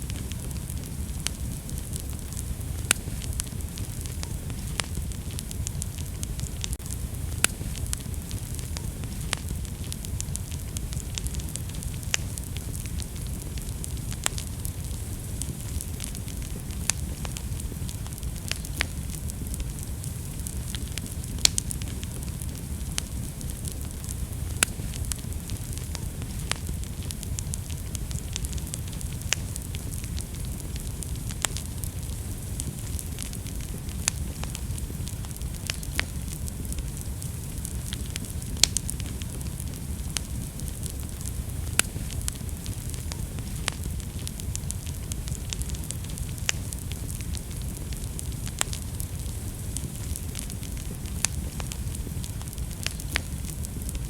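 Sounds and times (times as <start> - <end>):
fire crackling and popping: 0.0 - 54.0
wood fire rumbling and hissing: 0.0 - 54.0.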